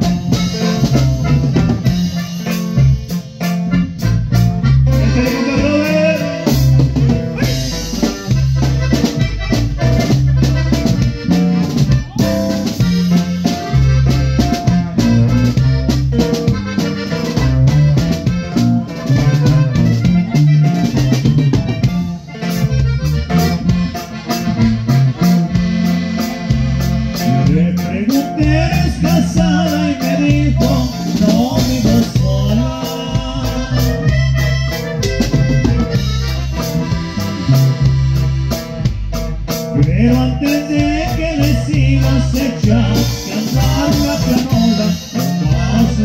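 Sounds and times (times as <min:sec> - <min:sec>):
accordion: 0:00.0 - 0:46.0
bass: 0:00.0 - 0:46.0
drum kit: 0:00.0 - 0:46.0
guitar: 0:00.0 - 0:46.0.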